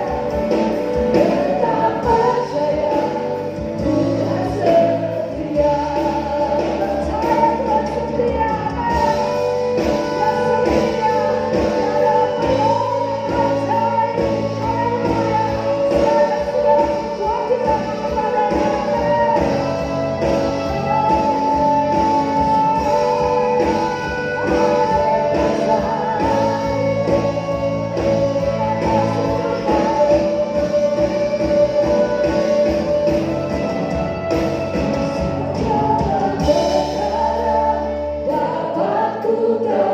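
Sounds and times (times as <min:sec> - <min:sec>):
choir singing worship song: 0:00.0 - 0:33.6, 0:35.2 - 0:39.9
instrumental accompaniment: 0:00.0 - 0:39.9.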